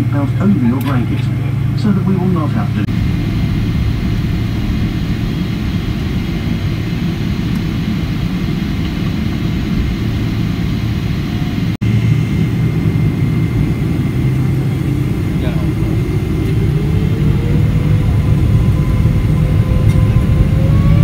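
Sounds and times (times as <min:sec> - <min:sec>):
jet engines rumbling in cabin: 0:00.0 - 0:21.0.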